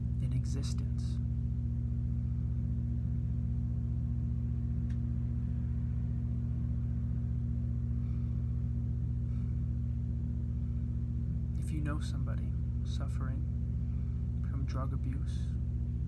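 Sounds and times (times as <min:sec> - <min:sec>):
deep ambient drone: 0:00.0 - 0:16.0.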